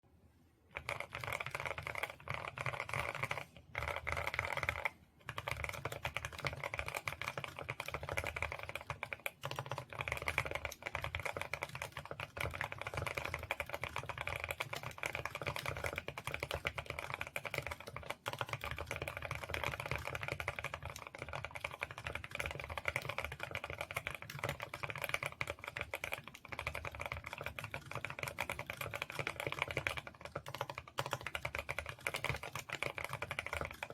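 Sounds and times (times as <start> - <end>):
mechanical keyboard typing: 0.7 - 33.9.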